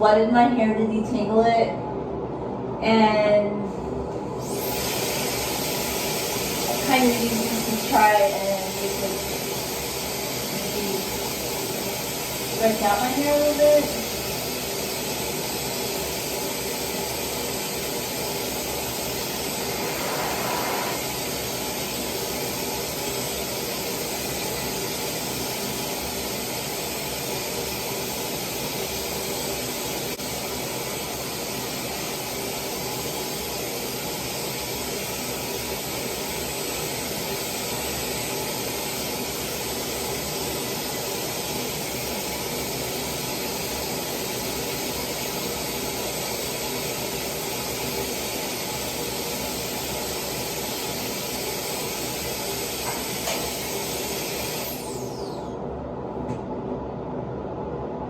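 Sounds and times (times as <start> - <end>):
hair dryer blowing: 4.4 - 55.7.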